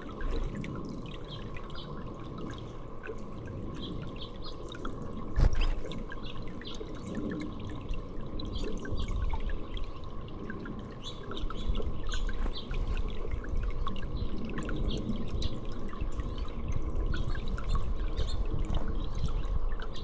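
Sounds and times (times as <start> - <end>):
water dripping and trickling: 0.0 - 20.0.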